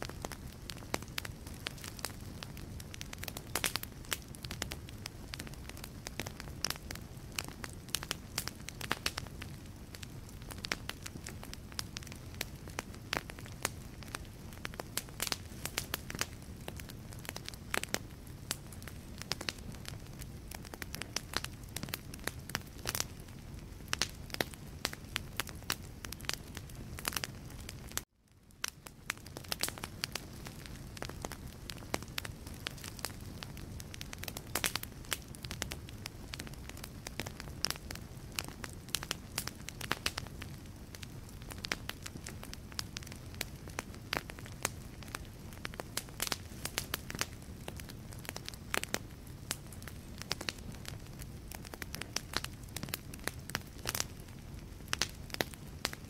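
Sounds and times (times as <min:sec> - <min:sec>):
low rumble of flames: 0:00.0 - 0:56.0
wood fire crackling and popping: 0:00.0 - 0:56.0.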